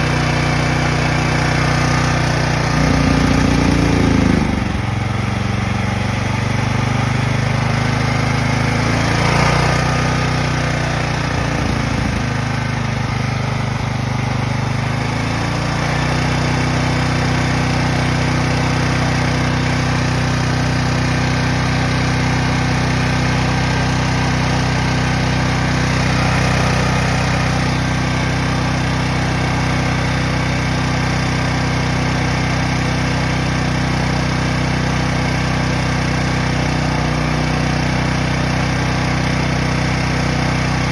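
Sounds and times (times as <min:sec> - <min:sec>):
portable generator engine running: 0:00.0 - 0:40.9.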